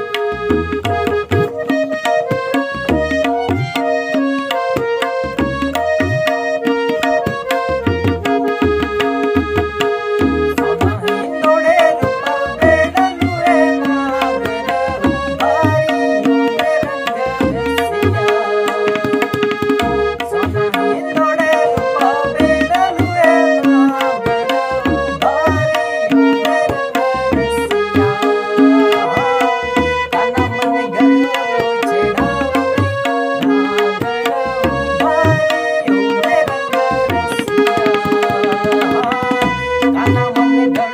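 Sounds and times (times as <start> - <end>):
harmonium melody: 0.0 - 40.9
tabla drumming: 0.0 - 40.9.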